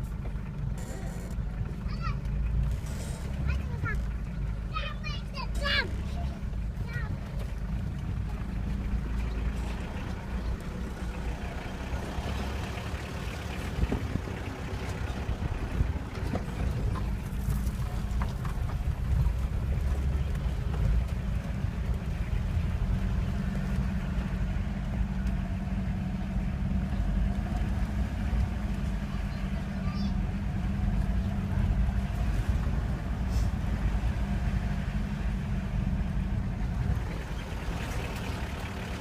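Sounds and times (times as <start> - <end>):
vehicle engine and road rumble: 0.0 - 39.0.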